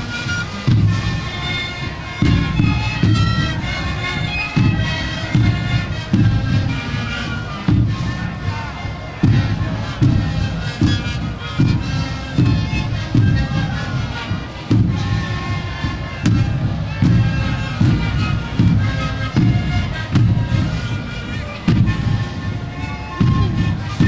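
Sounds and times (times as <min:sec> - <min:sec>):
large drums beating: 0:00.0 - 0:24.0
panpipes playing breathy melody: 0:00.0 - 0:24.0.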